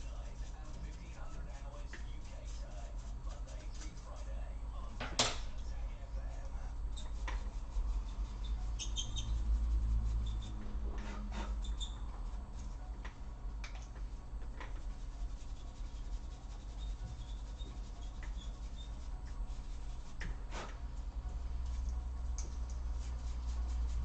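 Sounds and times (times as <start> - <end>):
brush rubbing over fan: 0.0 - 24.0
steady low hum: 0.0 - 24.0.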